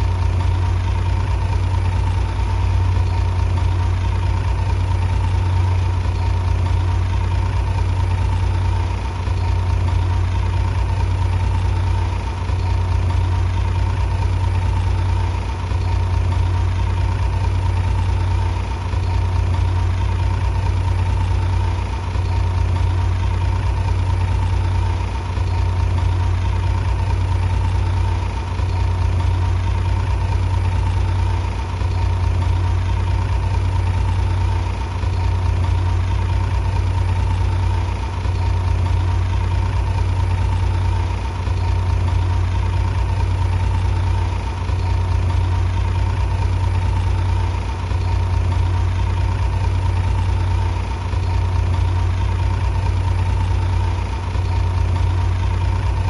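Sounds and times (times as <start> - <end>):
heavy engine humming: 0.0 - 56.0.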